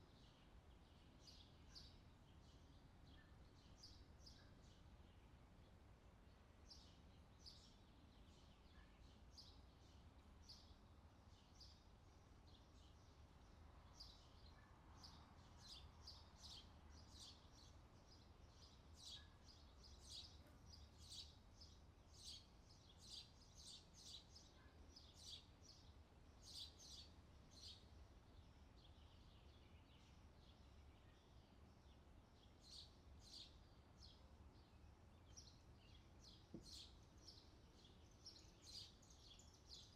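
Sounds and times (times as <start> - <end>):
low steady background hum: 0.0 - 39.9.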